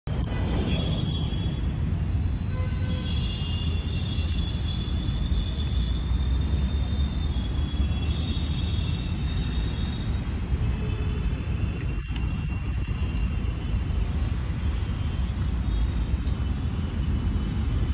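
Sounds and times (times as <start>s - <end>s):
faint high whistling tones: 0.5s - 2.5s, 3.8s - 17.9s.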